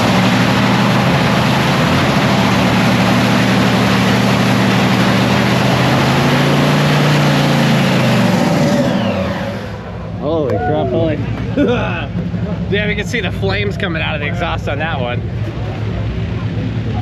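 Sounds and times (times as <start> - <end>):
drag racing engine idling: 0.0 - 17.0.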